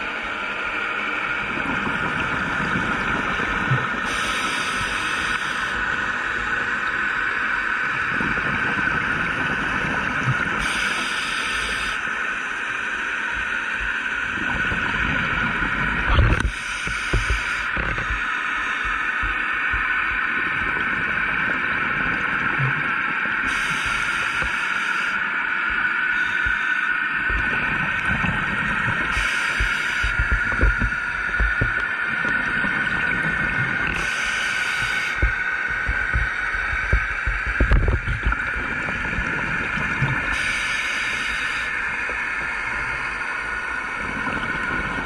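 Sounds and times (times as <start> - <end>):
scuba exhaust bubbles: 1.2 - 45.0
underwater hiss: 1.4 - 45.0.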